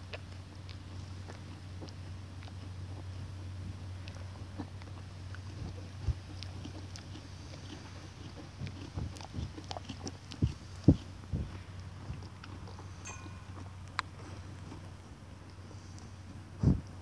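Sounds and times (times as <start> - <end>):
sheep nibbling at phone: 0.0 - 17.0
steady low hum: 0.0 - 17.0.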